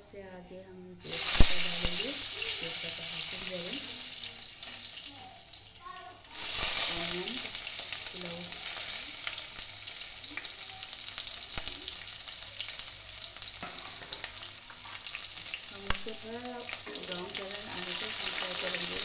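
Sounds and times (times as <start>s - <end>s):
onion sizzling in hot oil: 1.0s - 19.0s.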